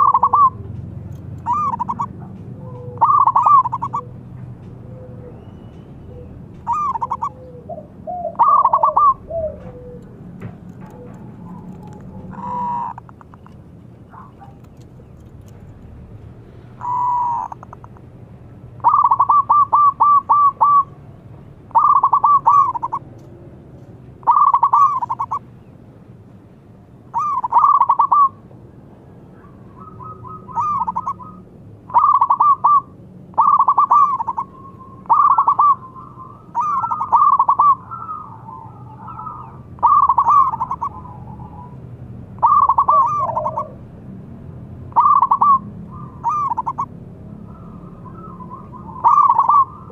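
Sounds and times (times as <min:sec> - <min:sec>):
dove cooing: 0:00.0 - 0:00.7, 0:01.4 - 0:15.2, 0:16.8 - 0:18.0, 0:18.8 - 0:21.0, 0:21.7 - 0:23.1, 0:24.2 - 0:25.5, 0:27.1 - 0:28.4, 0:29.3 - 0:41.8, 0:42.4 - 0:43.9, 0:44.9 - 0:49.9.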